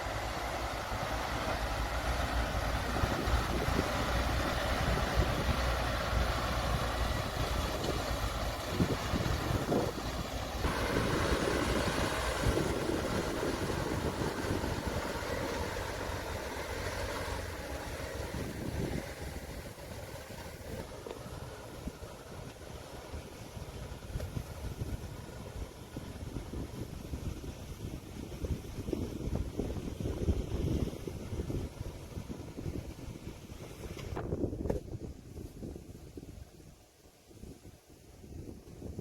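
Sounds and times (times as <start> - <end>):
heavy diesel engines running: 0.0 - 34.1.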